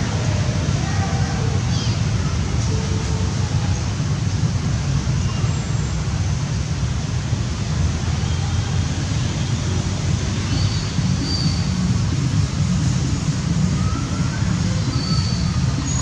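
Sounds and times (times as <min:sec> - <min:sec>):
heavy low rumble: 0:00.0 - 0:16.0.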